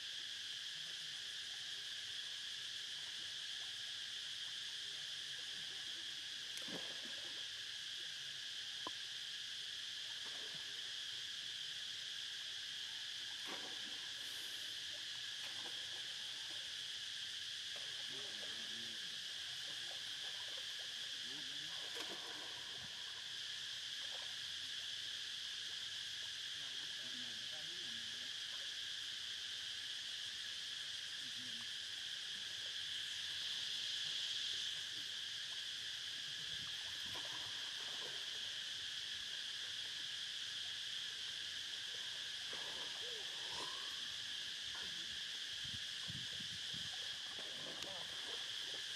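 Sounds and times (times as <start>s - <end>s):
insects calling: 0.0s - 48.9s.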